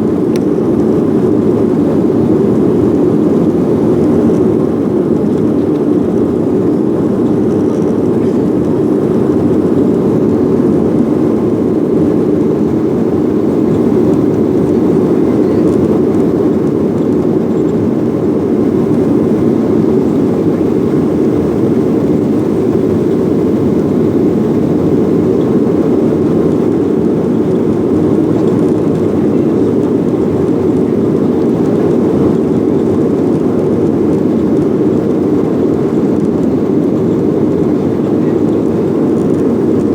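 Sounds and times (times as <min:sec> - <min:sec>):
jet airliner engines rumbling: 0:00.0 - 0:39.9.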